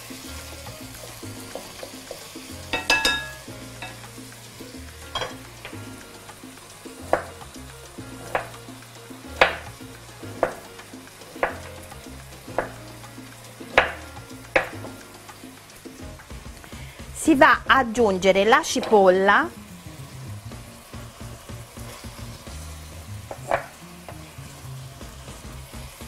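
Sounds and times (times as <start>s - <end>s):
meat sizzling in a frying pan: 0.0s - 26.0s.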